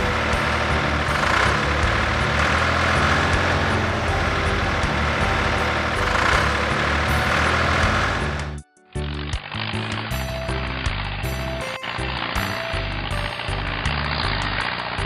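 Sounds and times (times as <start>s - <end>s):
heavy machine engine rumble: 0.0s - 15.0s.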